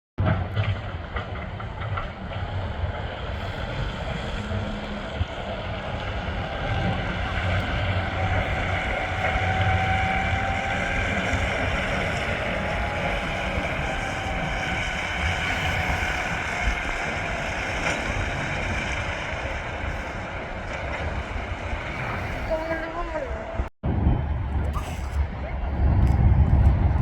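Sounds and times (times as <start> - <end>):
low engine rumble: 0.2 - 27.0
wind noise: 0.2 - 27.0.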